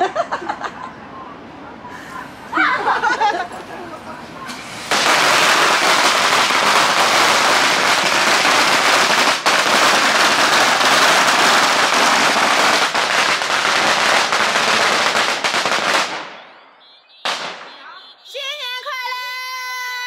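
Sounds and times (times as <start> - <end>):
firecrackers crackling: 2.8 - 20.0.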